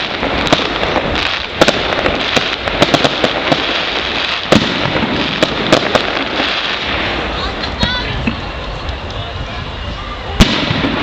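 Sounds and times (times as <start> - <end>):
fireworks bangs: 0.0 - 11.0
fireworks crackling and hissing: 0.0 - 11.0.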